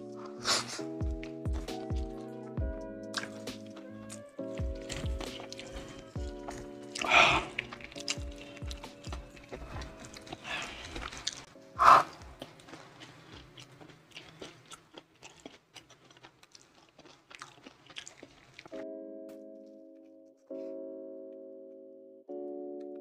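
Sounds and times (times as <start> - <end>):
crunchy chewing of fried chicken: 0.0 - 18.8
soft background music: 0.0 - 23.0.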